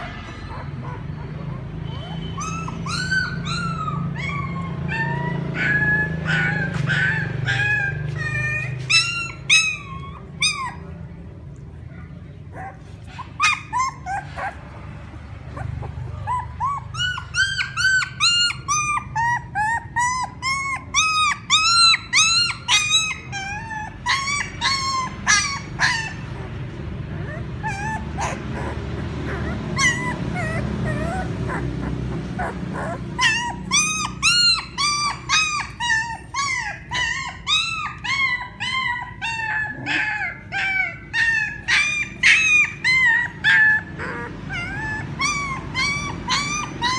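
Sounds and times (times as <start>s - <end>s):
puppies crying and whimpering: 0.0s - 46.9s.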